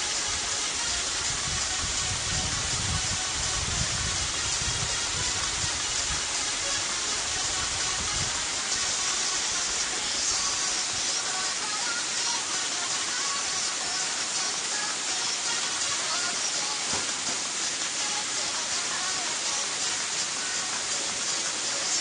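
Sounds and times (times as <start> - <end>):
waterfall rushing into pool: 0.0 - 22.0.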